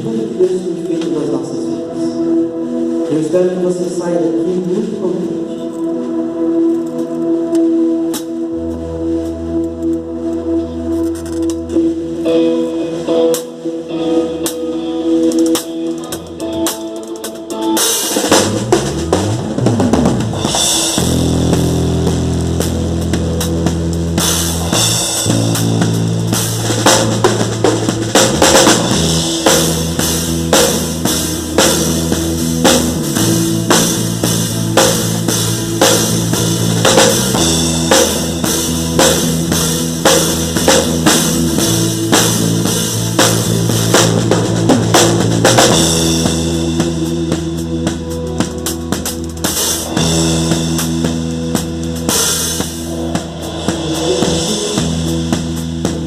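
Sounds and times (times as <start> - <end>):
band music with drum beat: 0.0 - 56.0
held low chords: 0.0 - 56.0.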